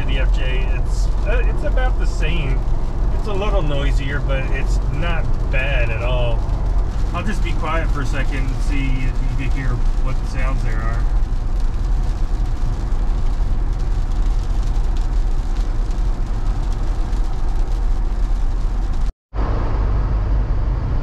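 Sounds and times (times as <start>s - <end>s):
road and wind noise in car cabin: 0.0s - 21.0s.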